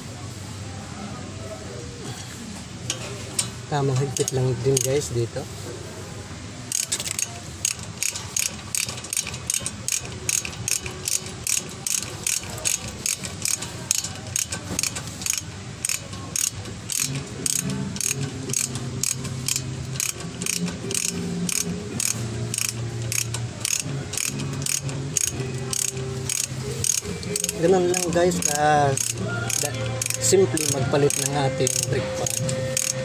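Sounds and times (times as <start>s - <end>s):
ratchet wrench clicking: 2.9s - 5.1s, 6.7s - 33.0s.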